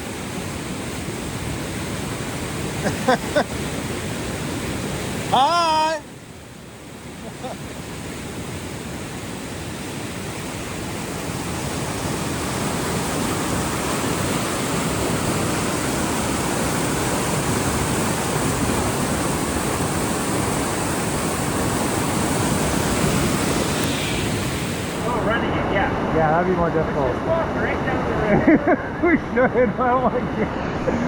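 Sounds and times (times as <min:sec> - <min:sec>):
whitewater rushing: 0:00.0 - 0:31.0.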